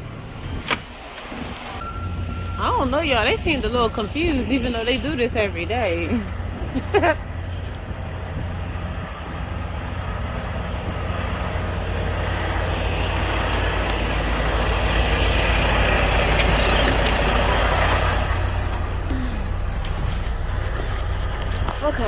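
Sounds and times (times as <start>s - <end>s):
diesel truck engine driving: 0.0s - 22.0s
road noise: 0.0s - 22.0s.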